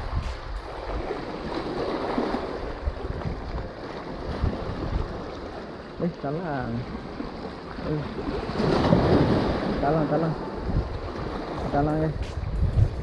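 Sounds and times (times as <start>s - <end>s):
wind buffeting microphone: 0.0s - 5.6s, 6.8s - 13.0s
waves splashing over rocks: 0.0s - 13.0s.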